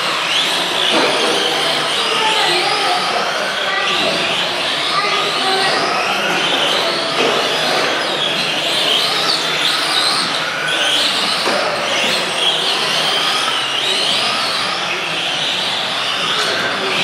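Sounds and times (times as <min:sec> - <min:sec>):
electric toy trucks whining: 0:00.0 - 0:17.0.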